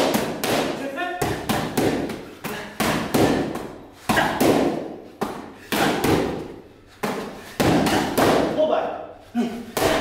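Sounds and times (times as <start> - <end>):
boxing gloves smacking mitts: 0.0 - 8.6, 9.7 - 10.0.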